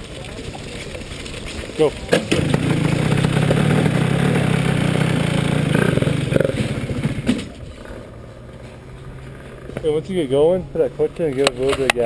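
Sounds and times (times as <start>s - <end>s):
kart engine running: 2.0s - 11.8s.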